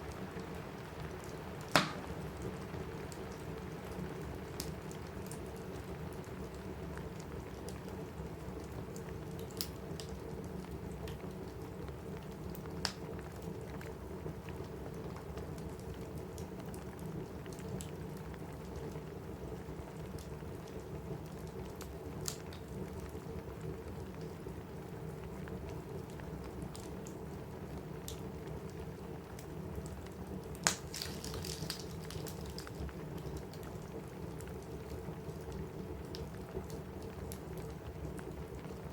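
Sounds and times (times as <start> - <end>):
rain on a roof: 0.0 - 38.9
wood fire crackling and popping: 0.1 - 38.9.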